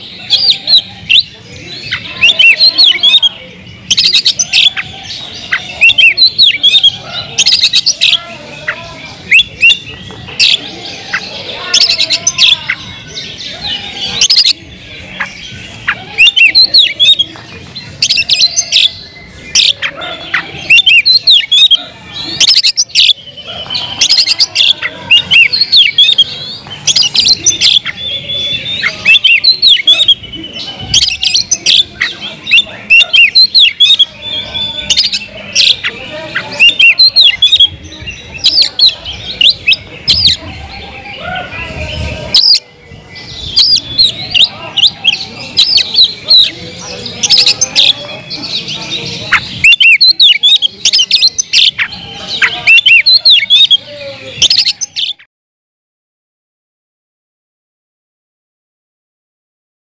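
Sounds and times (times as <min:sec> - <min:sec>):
songbird chirping and whistling: 0:00.0 - 0:48.0, 0:48.6 - 0:55.2.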